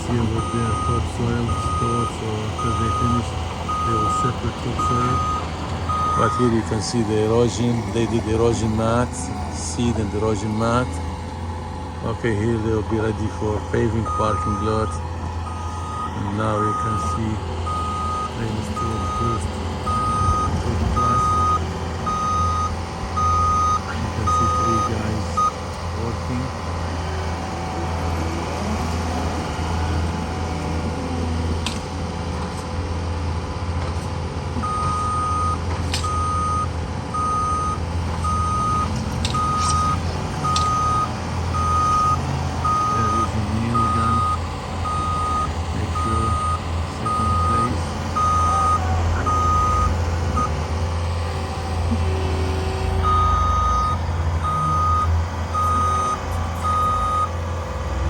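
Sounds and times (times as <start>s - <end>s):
backup alarm beeping: 0.0s - 11.2s, 12.0s - 26.6s, 34.5s - 50.8s, 51.8s - 57.5s
heavy machinery engine running: 0.0s - 58.0s.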